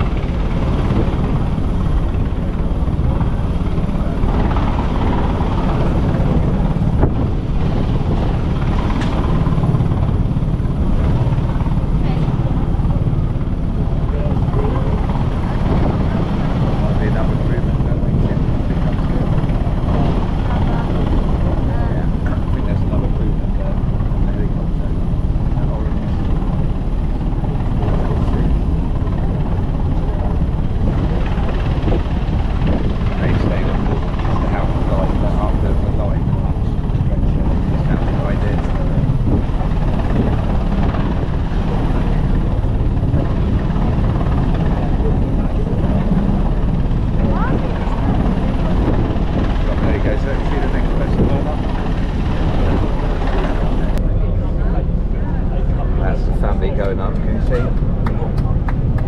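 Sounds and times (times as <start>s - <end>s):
helicopter rotor beating: 0.0s - 59.0s.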